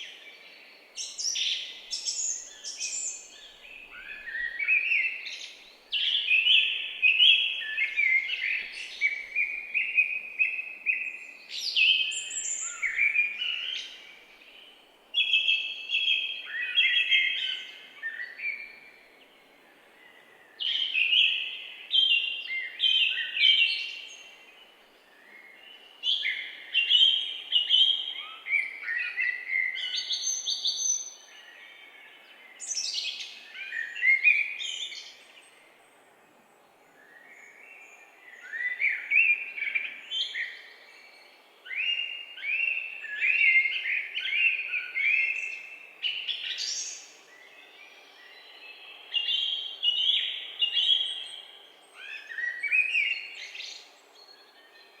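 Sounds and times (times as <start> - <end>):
faint steady hiss: 0.0 - 55.0
songbirds singing: 0.0 - 55.0.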